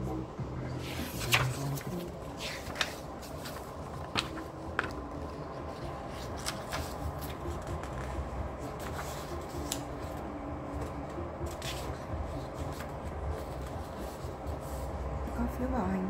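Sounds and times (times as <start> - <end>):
paper pages turning: 0.8 - 14.9.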